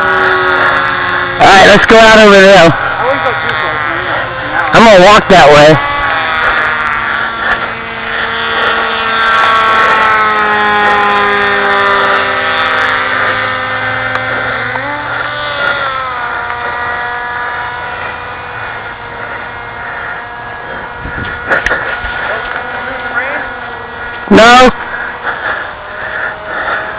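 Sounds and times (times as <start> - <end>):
model plane motor whine: 0.0 - 26.9.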